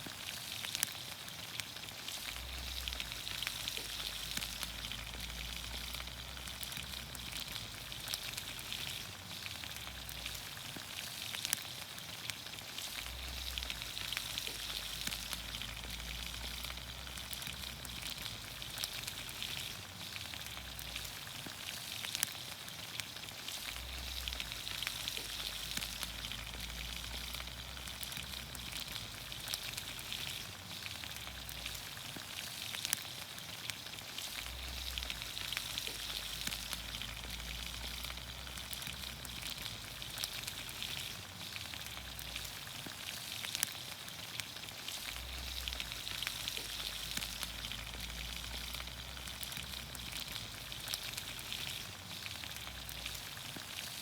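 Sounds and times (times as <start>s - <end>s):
oil popping and crackling: 0.0s - 54.0s
vegetables sizzling in a pan: 0.0s - 54.0s.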